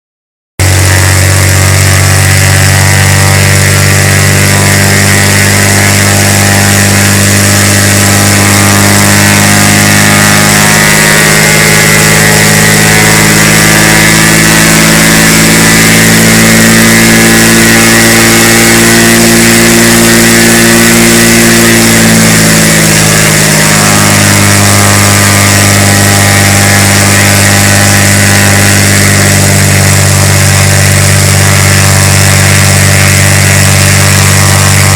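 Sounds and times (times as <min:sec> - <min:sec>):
propeller plane engine running: 0:00.6 - 0:34.9.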